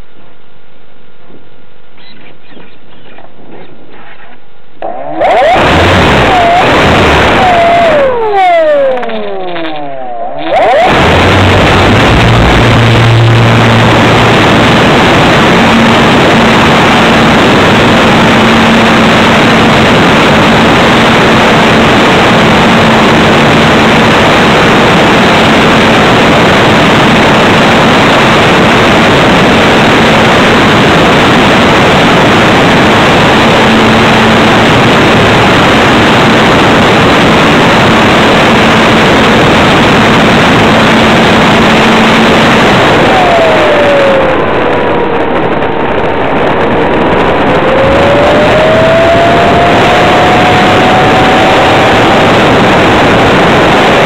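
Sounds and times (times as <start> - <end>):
wind rush: 4.8 - 54.0.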